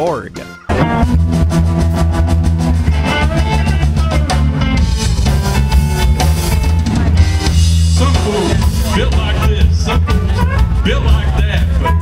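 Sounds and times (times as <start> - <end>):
blues band playing: 0.0 - 12.0.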